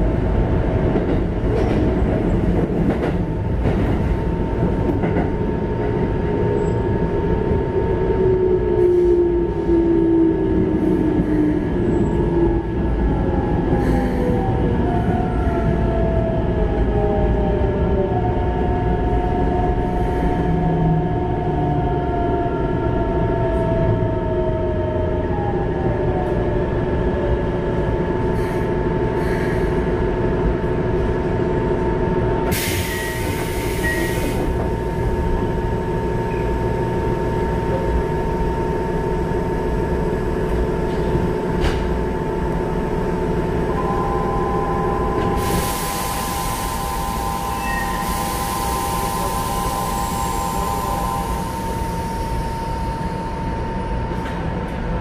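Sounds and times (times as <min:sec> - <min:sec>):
train inverter whine: 0:00.0 - 0:55.0
train running rumble: 0:00.0 - 0:55.0.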